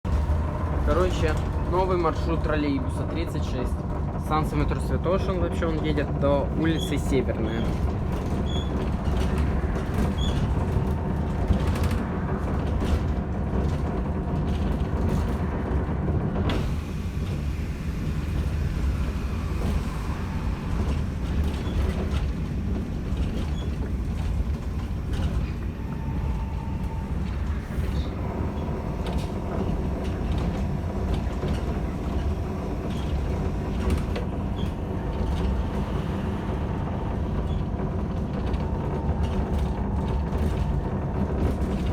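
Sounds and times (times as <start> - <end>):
bus body creaking and rattling: 0.0 - 41.9
vehicle ride rumble: 0.0 - 41.9.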